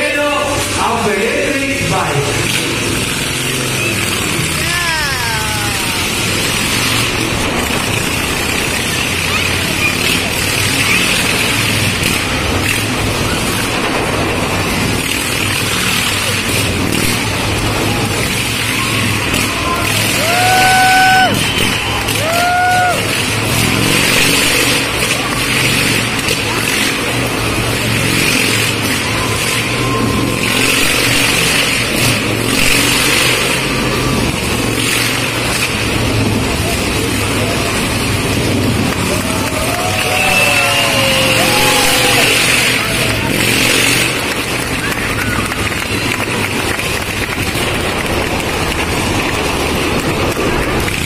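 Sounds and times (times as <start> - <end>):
motorcycle engines running: 0.0 - 51.0.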